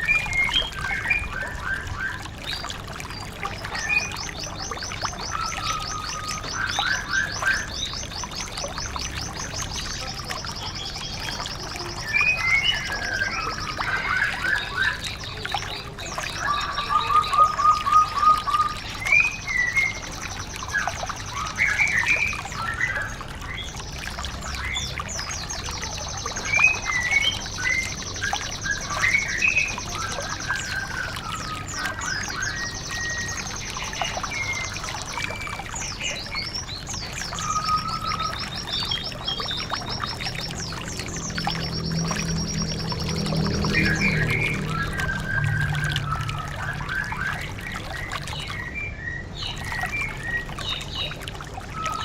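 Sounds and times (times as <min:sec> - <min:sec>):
bird song with high trills: 0:00.0 - 0:52.0
trickling water: 0:00.0 - 0:52.0.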